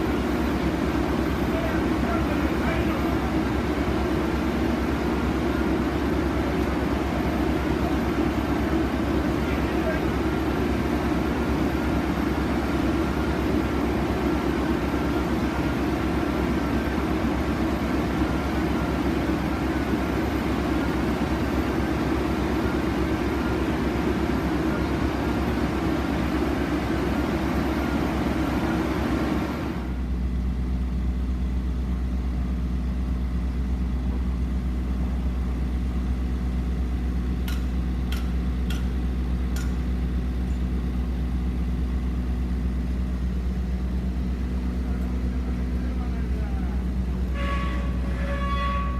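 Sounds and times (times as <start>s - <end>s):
drilling rig machinery running: 0.0s - 48.9s.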